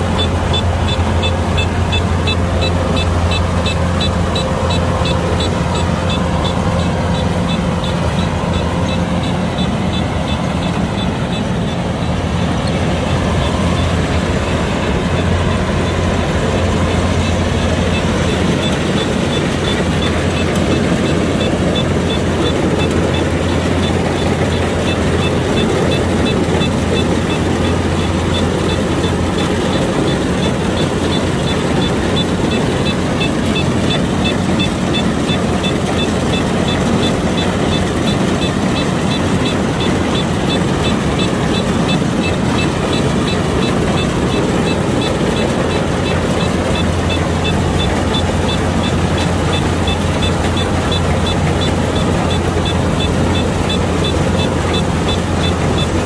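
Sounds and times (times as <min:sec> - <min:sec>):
combine harvester droning: 0:00.0 - 0:56.0
faint regular ticking: 0:00.0 - 0:56.0.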